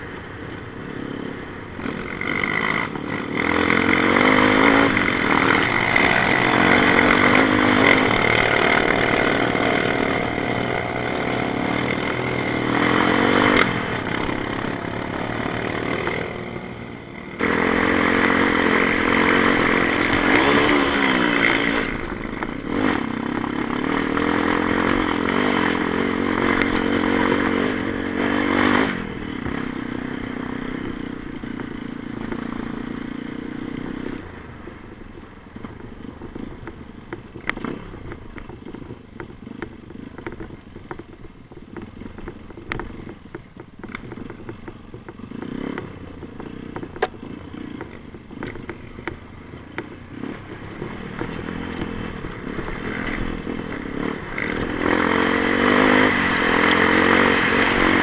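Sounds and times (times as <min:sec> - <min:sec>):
vehicle engine under load: 0:00.0 - 0:58.0.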